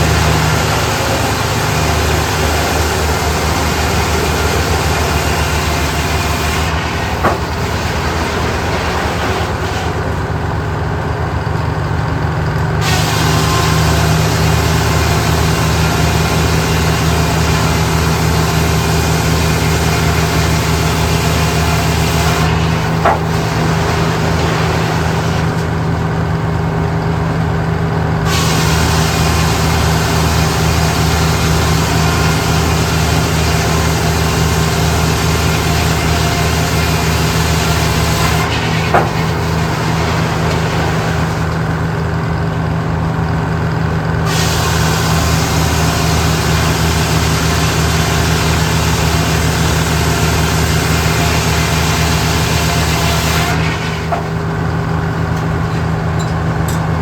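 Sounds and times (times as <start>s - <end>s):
motor humming: 0.0s - 10.6s, 12.5s - 27.1s, 28.2s - 57.0s.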